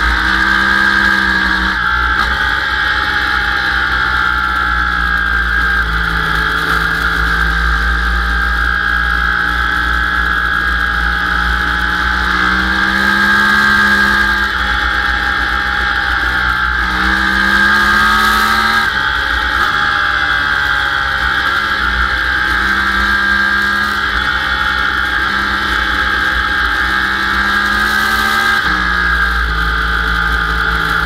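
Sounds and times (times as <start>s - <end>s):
motorcycle engine running hard: 0.0s - 31.0s.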